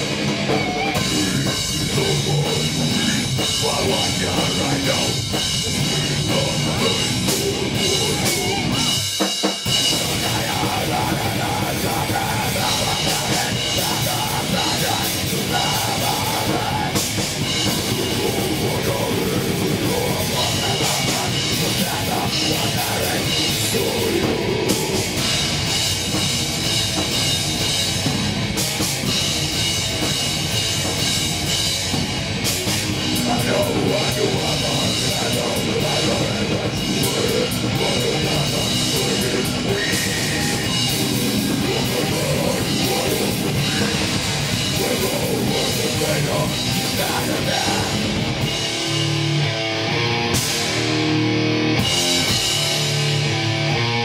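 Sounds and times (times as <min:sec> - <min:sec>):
heavy rock band playing: 0:00.0 - 0:54.0.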